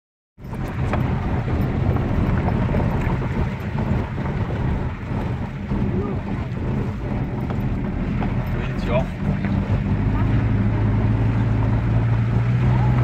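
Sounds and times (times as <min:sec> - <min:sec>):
rattles and knocks: 0:00.4 - 0:12.4
truck engine and road rumble: 0:00.4 - 0:13.0.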